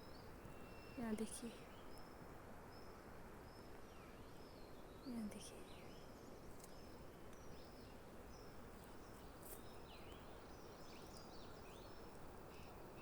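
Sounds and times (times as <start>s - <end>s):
birds chirping: 0.0s - 13.0s
steady low hiss: 0.0s - 13.0s.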